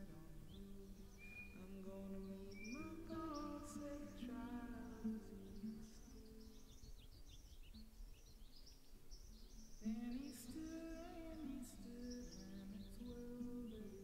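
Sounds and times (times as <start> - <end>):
small birds chirping: 0.0 - 14.0
soft ambient music: 0.0 - 14.0.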